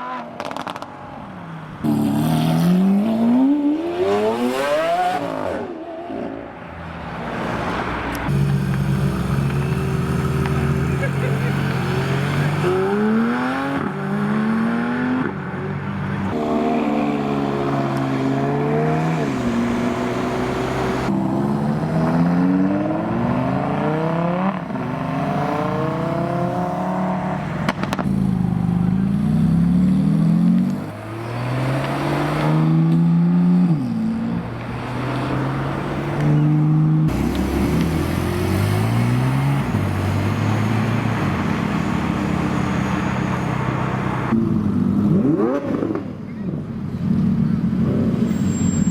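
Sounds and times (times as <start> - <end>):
car engines revving hard: 0.0 - 1.1, 1.7 - 6.5, 7.2 - 48.9.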